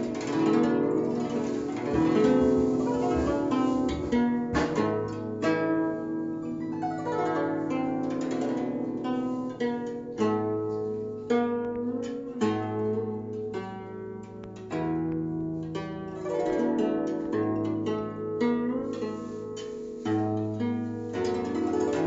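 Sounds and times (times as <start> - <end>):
plucked zither: 0.0 - 22.0.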